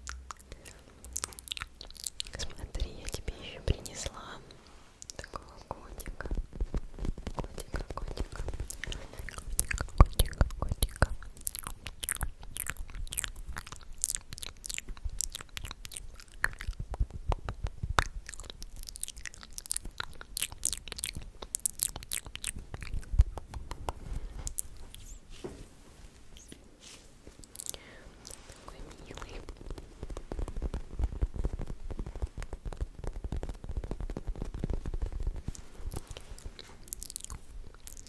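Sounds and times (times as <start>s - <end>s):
wet mouth clicks: 0.0s - 6.4s, 7.1s - 25.2s, 26.4s - 26.7s, 27.3s - 30.7s, 34.6s - 38.0s
lip smacks: 0.0s - 25.3s, 26.2s - 38.0s.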